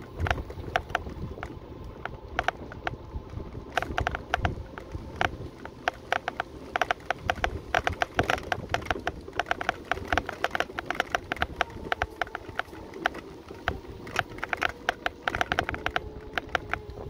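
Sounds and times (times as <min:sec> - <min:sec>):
faint steady hum: 0:00.0 - 0:17.0
low rumble: 0:00.0 - 0:17.0
mobility scooter rattling and clicking: 0:00.0 - 0:17.0.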